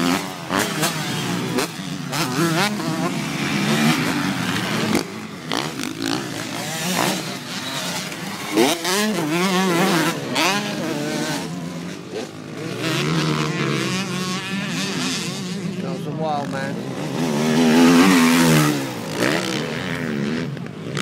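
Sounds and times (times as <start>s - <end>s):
motocross bikes revving past: 0.0s - 21.0s.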